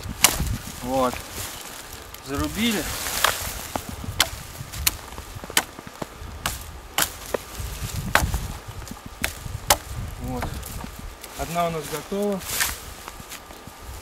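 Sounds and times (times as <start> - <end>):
hatchet chopping twigs: 0.0 - 11.6, 12.2 - 13.6.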